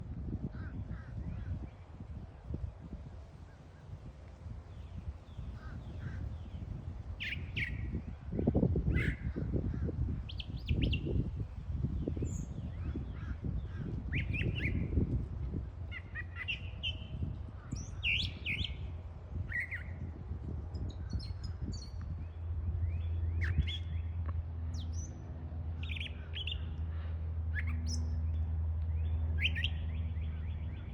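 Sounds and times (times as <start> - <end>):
birds chirping: 4.7 - 20.2, 20.8 - 25.2, 25.8 - 30.9.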